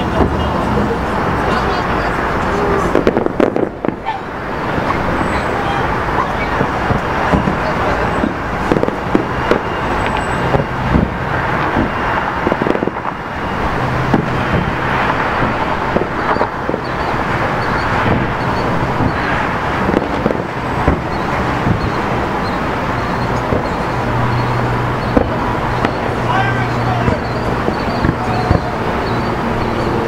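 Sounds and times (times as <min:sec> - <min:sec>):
distant fireworks bursting: 0:00.0 - 0:30.0
low engine hum: 0:00.0 - 0:30.0
traffic noise: 0:00.0 - 0:30.0.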